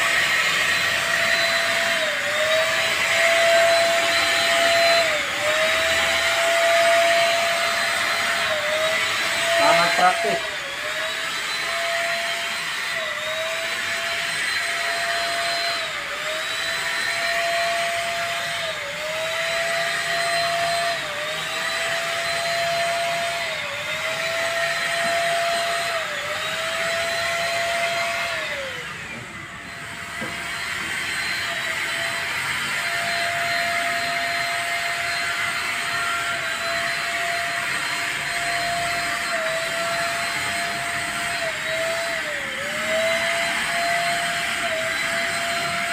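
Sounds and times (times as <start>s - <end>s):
paint spray gun motor whine: 0.0s - 45.9s.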